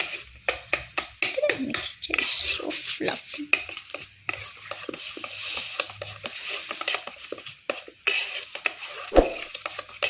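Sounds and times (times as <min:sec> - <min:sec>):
utensil tapping and scraping bowl: 0:00.0 - 0:10.0.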